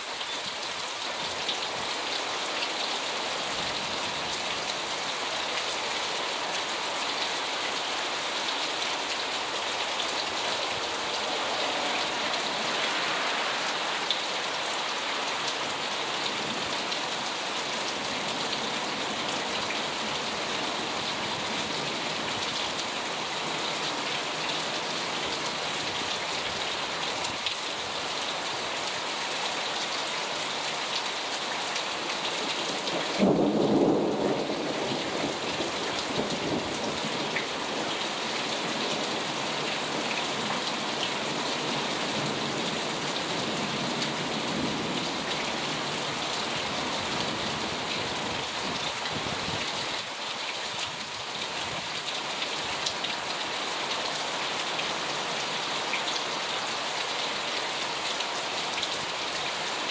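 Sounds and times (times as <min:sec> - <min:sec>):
heavy rain on cars and pavement: 0:00.0 - 0:59.9.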